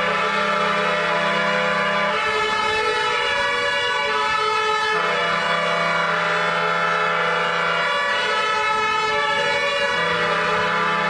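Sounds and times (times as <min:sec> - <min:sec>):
deeper horn: 0:00.0 - 0:11.0
fire engine air horns: 0:00.0 - 0:11.0.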